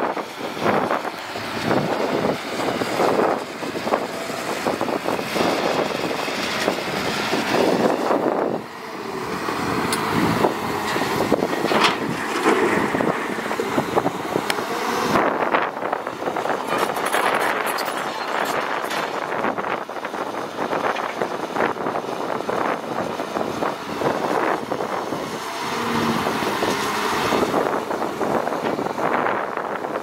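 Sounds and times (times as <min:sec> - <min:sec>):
excavator engine and hydraulics: 0:00.0 - 0:30.0.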